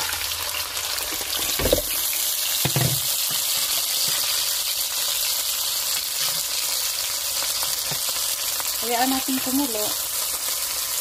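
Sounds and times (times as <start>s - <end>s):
marinade sizzling in hot oil: 0.0s - 11.0s.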